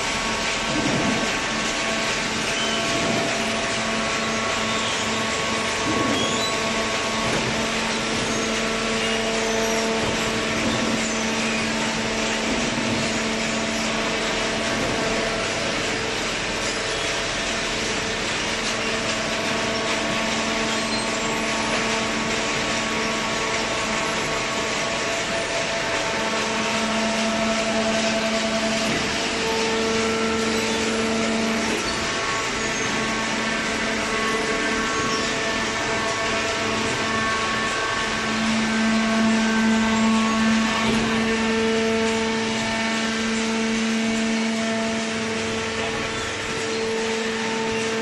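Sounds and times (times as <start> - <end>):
industrial machinery humming: 0.0 - 48.0.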